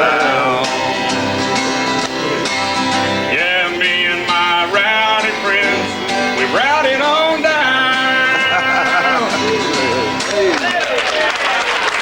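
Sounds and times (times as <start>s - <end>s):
guitar backing: 0.0s - 11.6s.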